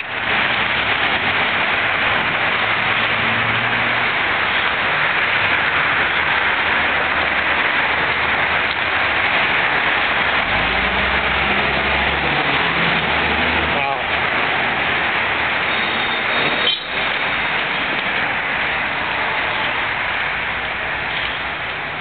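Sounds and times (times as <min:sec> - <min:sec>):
street traffic hiss: 0:00.0 - 0:22.0
vehicle engine low rumble: 0:00.0 - 0:22.0.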